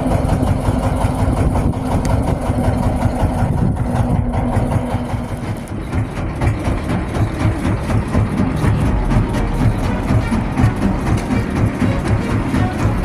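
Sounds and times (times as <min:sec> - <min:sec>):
engine running with low rumble: 0:00.0 - 0:13.0.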